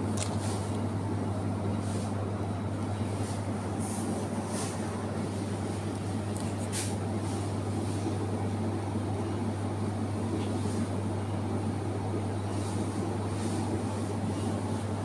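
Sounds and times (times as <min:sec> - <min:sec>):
refrigerated cases humming: 0:00.0 - 0:15.0.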